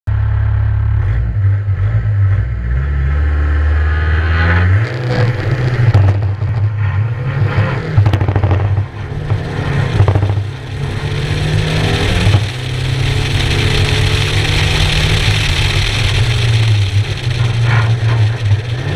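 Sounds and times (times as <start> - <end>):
rally car engine accelerating: 0.1 - 18.9.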